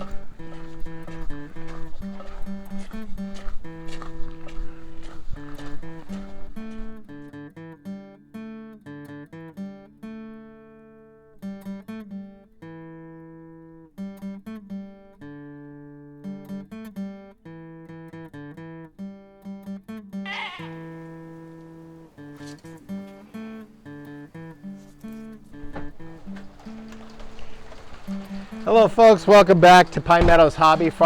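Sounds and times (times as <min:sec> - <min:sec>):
acoustic guitar picked melody: 0:00.0 - 0:31.0.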